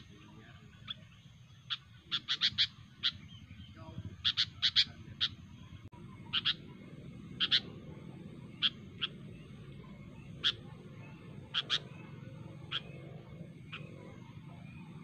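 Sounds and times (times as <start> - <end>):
bird call notes: 0.0 - 15.0.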